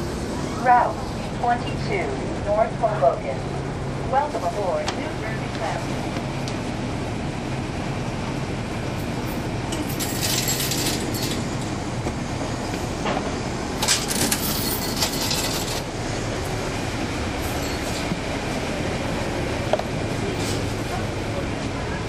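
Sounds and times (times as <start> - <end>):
bus diesel engine droning: 0.0 - 22.0.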